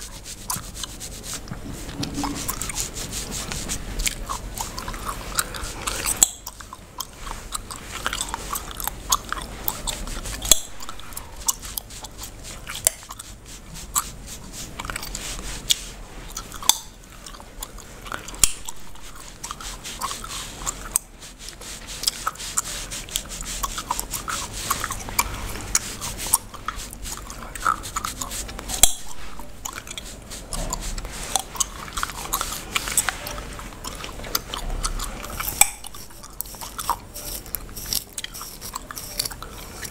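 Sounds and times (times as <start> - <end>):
fingers rubbing through hair: 0.0 - 39.9
gum chewing: 0.0 - 39.9.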